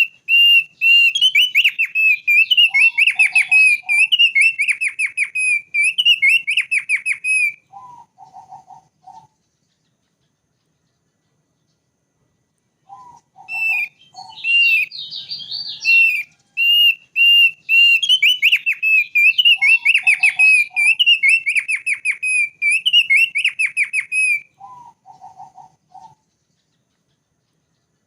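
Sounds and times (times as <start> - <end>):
bird singing whistled trills: 0.0 - 11.9, 12.8 - 28.0
lower bird notes: 0.0 - 28.0.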